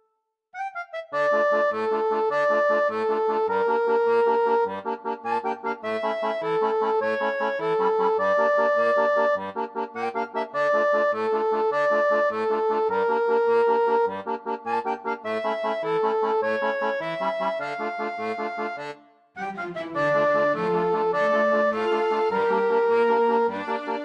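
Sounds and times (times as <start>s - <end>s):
instrumental music: 0.0s - 24.0s.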